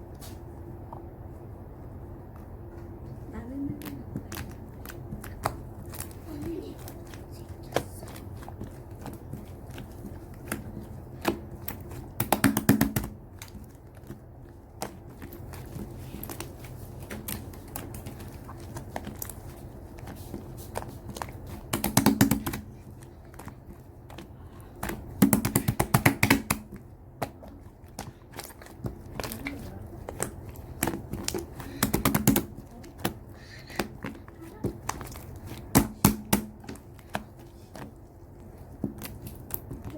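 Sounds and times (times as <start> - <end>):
faint low hum: 0.0 - 39.9
slime squished by hand: 0.0 - 39.9.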